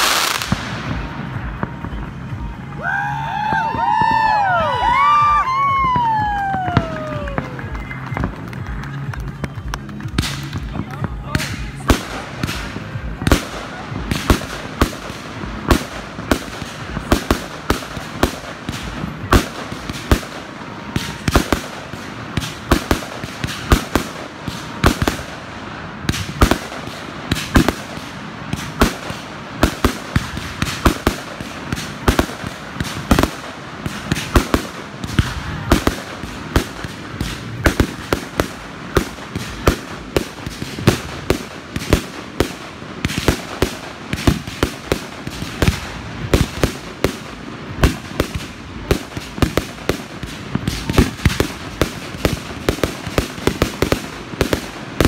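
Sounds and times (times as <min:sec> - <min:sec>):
fireworks bursting: 0:00.0 - 0:55.0
steady noisy background: 0:00.0 - 0:55.0.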